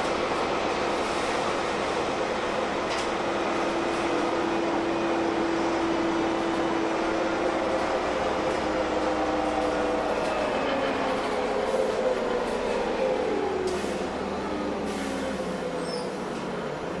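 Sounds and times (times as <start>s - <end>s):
bus mechanical hum: 0.0s - 17.0s.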